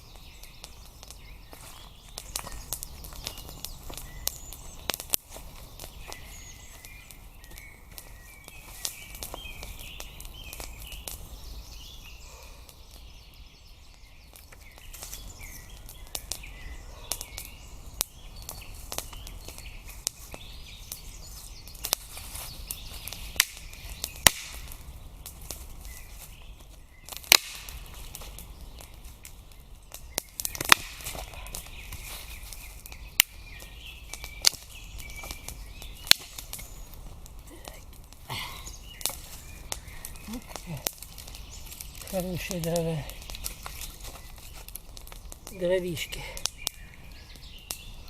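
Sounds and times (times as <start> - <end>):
small birds chirping: 0.0 - 48.0
sharp snaps: 0.1 - 11.4, 13.9 - 21.1, 21.7 - 47.9.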